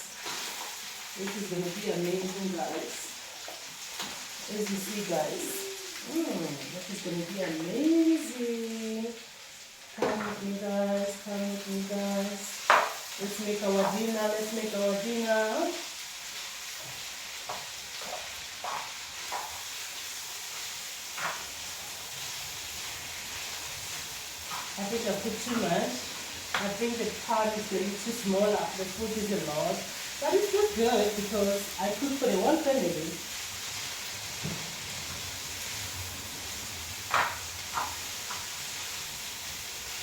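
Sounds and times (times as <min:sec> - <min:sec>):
vegetables sizzling in a pot: 0:00.0 - 0:40.0.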